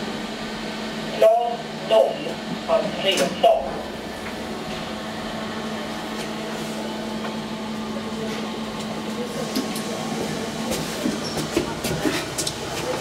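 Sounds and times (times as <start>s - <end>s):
elevator mechanical hum: 0.0s - 13.0s.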